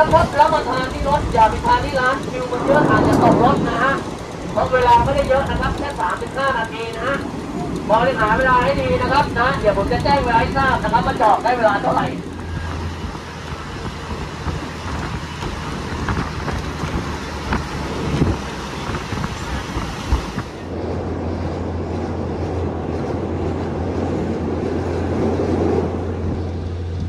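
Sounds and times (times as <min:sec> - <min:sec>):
low hum: 0:00.0 - 0:18.2, 0:20.4 - 0:27.0
train carriage rumble: 0:00.0 - 0:27.0
wind buffeting the microphone: 0:00.0 - 0:27.0.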